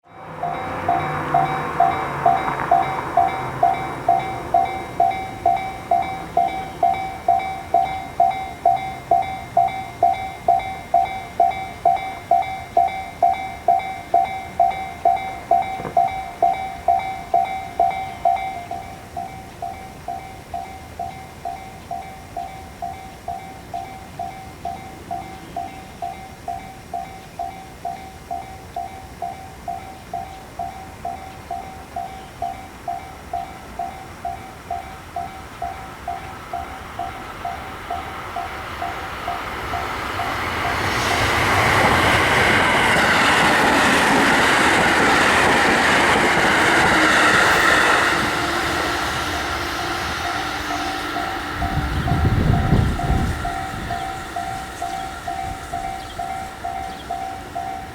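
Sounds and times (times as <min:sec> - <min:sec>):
level-crossing alarm clanging: 0:00.0 - 0:57.9
passing train: 0:00.0 - 0:57.9.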